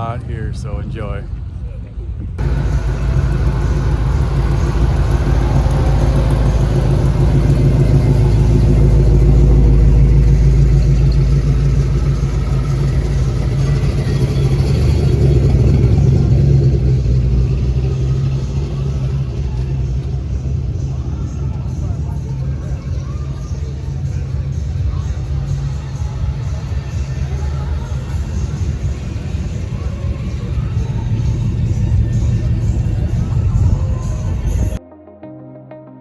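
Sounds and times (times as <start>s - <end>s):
car engine running: 2.3s - 34.8s.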